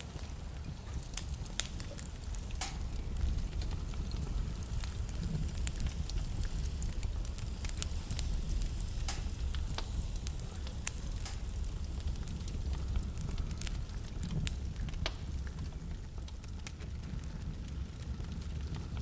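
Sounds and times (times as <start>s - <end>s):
burning logs crackling and popping: 0.0s - 19.0s
fire flames rumbling and hissing: 0.0s - 19.0s.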